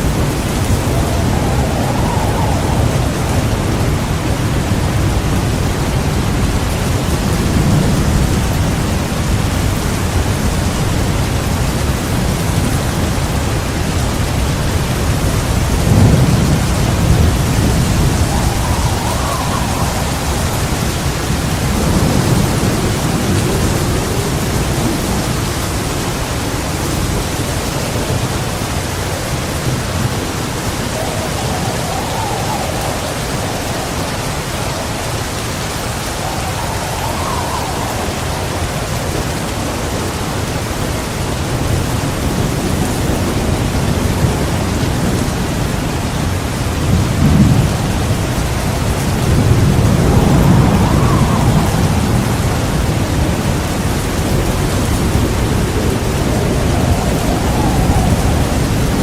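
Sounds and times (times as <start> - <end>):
heavy rain falling: 0.0 - 59.0
low rolling thunder: 0.0 - 59.0.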